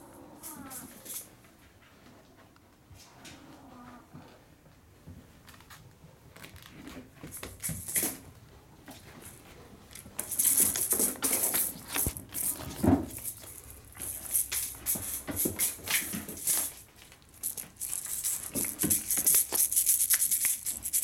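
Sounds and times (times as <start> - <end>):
kittens clicking and scuffling: 0.3 - 1.4, 5.2 - 21.0.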